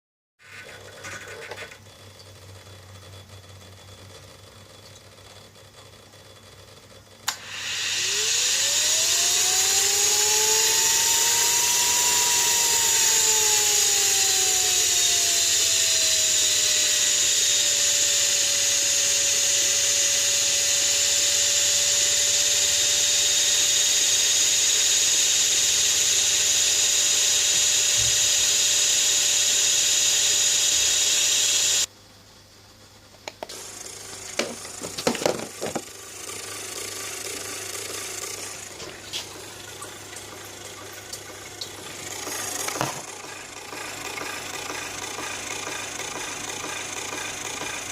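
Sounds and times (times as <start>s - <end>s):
electric pump motor whining: 7.2s - 31.9s, 33.4s - 47.9s.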